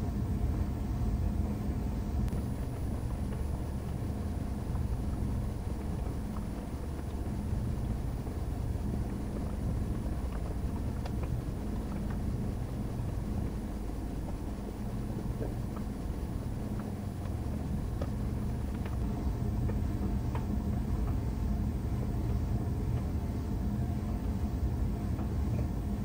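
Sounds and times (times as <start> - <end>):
clothes dryer running: 0.0 - 26.0
light ticks in dryer drum: 2.2 - 26.0.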